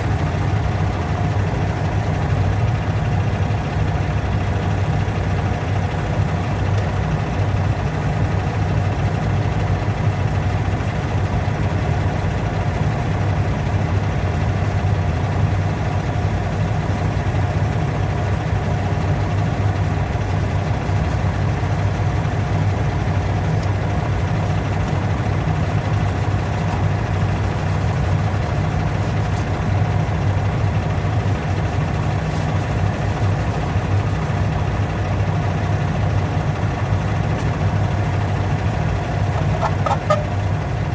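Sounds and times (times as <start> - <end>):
low motor hum: 0.0 - 40.9.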